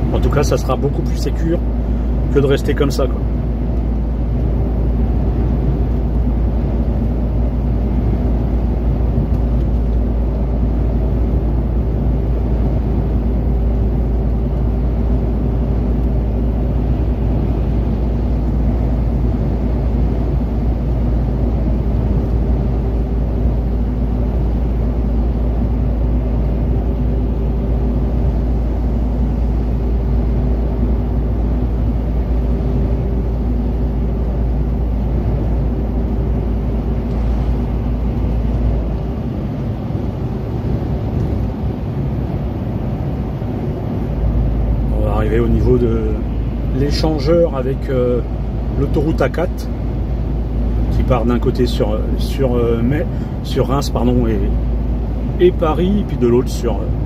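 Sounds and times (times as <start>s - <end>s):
truck engine and tyre rumble: 0.0s - 57.0s.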